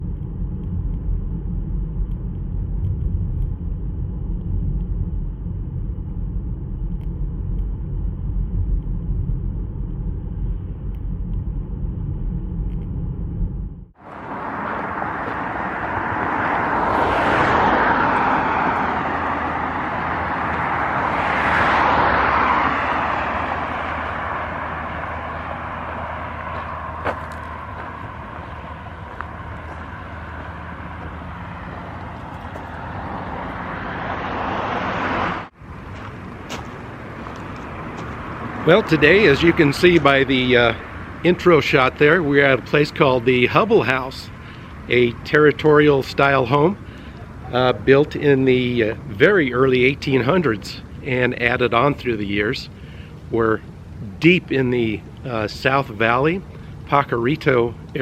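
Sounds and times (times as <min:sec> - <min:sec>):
steady low rumble: 0:00.0 - 0:34.4, 0:35.0 - 0:58.0
vehicles passing by: 0:00.0 - 0:58.0.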